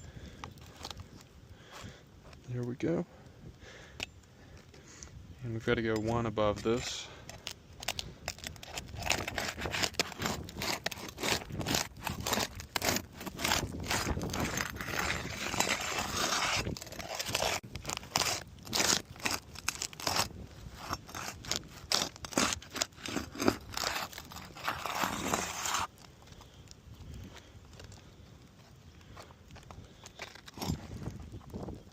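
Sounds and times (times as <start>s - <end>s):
roof shingles scraping and crunching: 6.2s - 31.9s.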